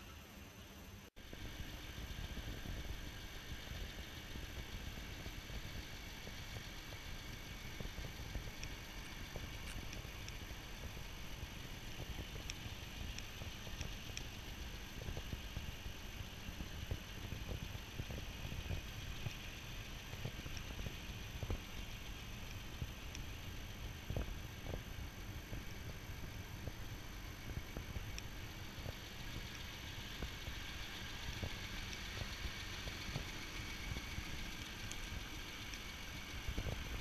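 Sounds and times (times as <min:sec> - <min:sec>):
truck engine low rumble: 0:00.0 - 0:37.0.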